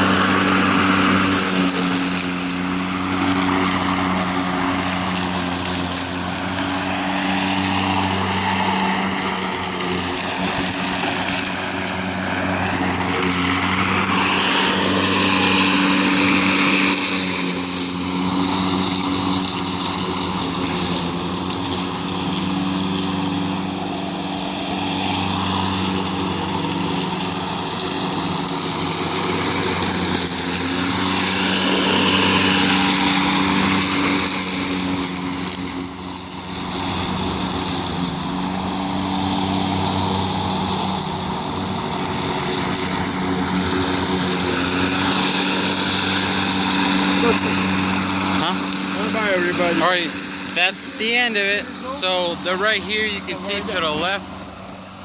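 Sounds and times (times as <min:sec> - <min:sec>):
electric lawn mower cutting grass: 0:00.0 - 0:55.0.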